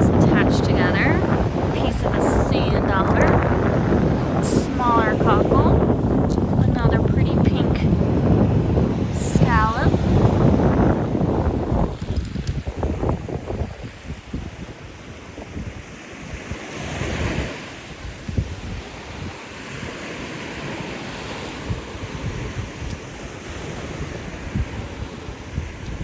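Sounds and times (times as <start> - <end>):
surf washing on a beach: 0.0 - 26.0
wind buffeting microphone: 0.0 - 26.0.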